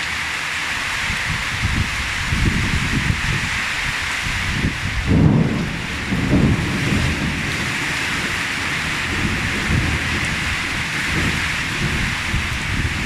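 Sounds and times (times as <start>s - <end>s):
rain falling on plants: 0.0s - 13.0s.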